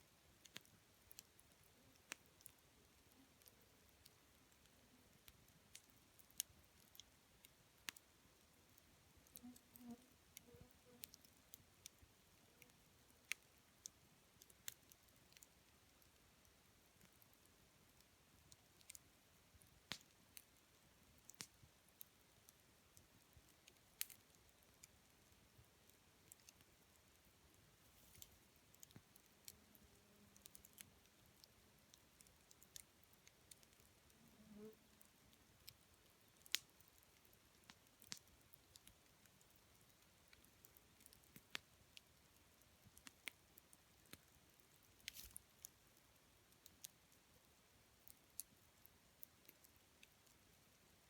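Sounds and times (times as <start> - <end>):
wood fire crackling faintly: 0.0 - 51.0.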